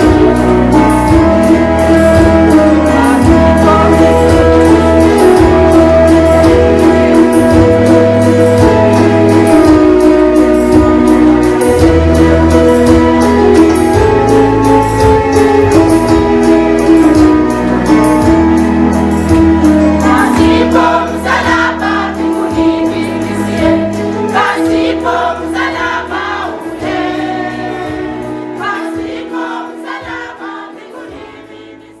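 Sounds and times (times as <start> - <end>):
gospel choir singing: 0.0 - 14.3, 19.1 - 32.0.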